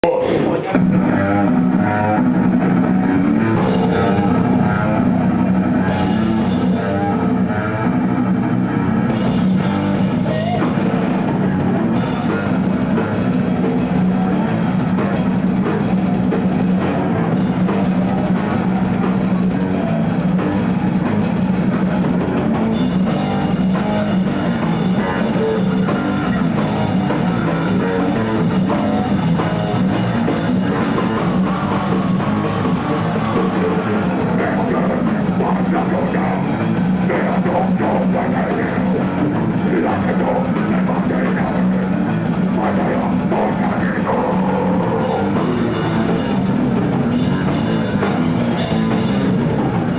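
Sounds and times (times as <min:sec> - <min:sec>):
drum kit: 0:00.0 - 0:49.9
electric guitars: 0:00.0 - 0:49.9.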